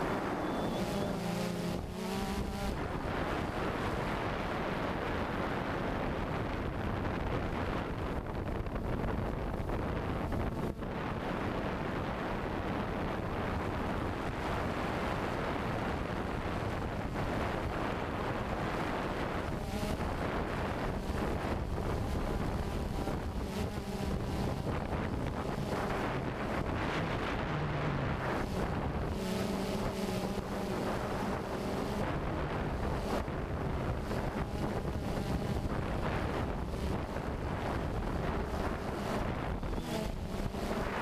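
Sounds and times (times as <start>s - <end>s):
drone motors whining: 0.0s - 6.4s, 10.2s - 41.0s
wind and propeller wash: 0.0s - 41.0s.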